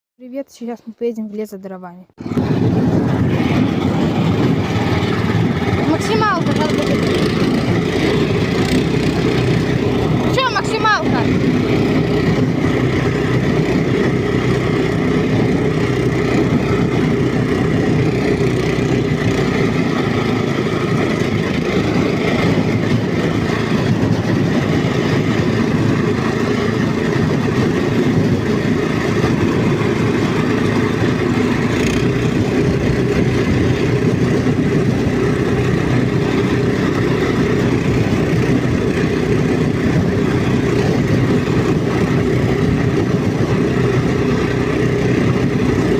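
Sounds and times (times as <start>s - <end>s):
tractor engine running: 2.1s - 45.9s.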